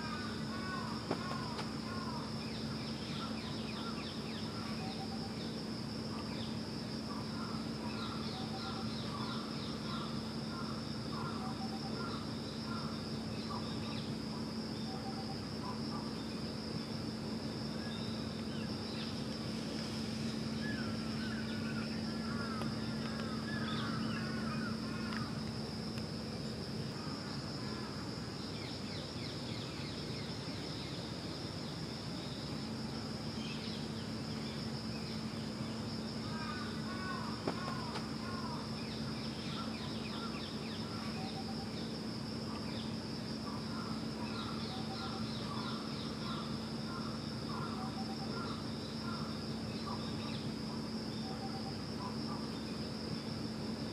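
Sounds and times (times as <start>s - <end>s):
insect chirring: 0.0s - 53.9s
low steady hum: 0.0s - 53.9s.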